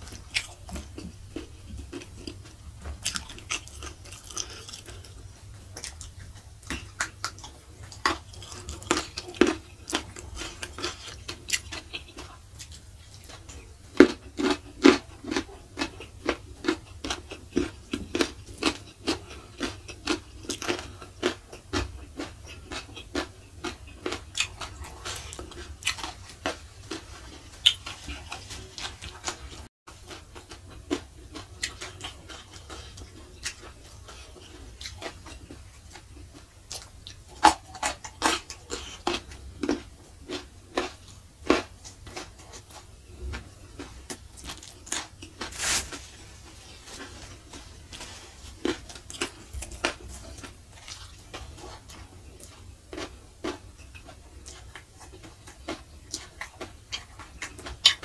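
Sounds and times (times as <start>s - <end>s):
person chewing with crunches: 0.0s - 58.0s.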